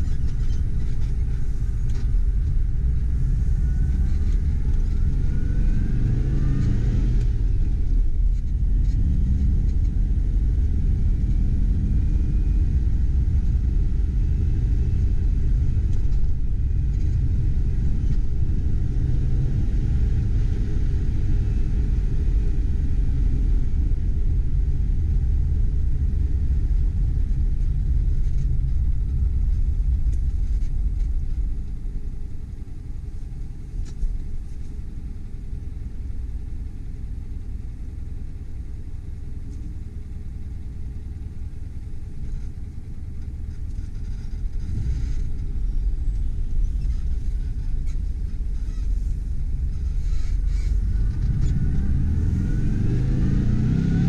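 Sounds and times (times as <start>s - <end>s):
car engine heard from cabin: 0.0s - 54.0s.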